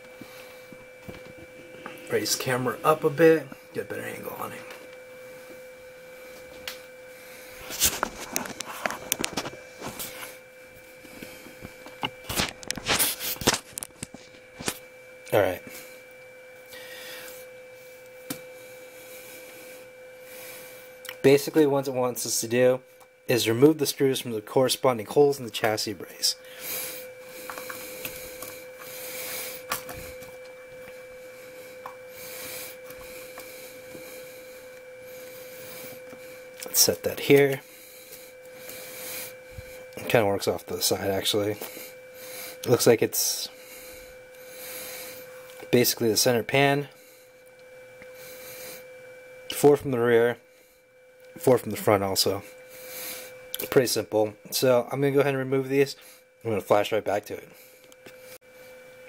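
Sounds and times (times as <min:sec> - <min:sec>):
faint steady hum: 0:00.0 - 0:59.0
faint steady whine: 0:00.0 - 0:59.0.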